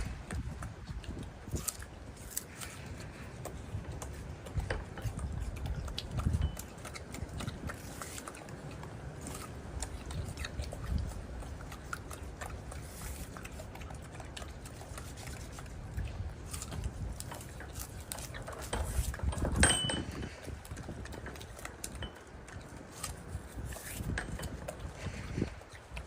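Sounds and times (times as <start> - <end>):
monkey chewing fruit: 0.0 - 26.0.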